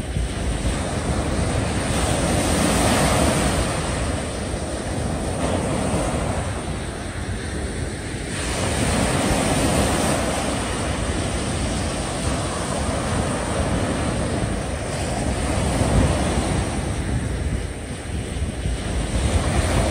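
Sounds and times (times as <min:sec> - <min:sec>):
sea waves washing: 0:00.0 - 0:19.9
wind buffeting microphone: 0:00.0 - 0:19.9.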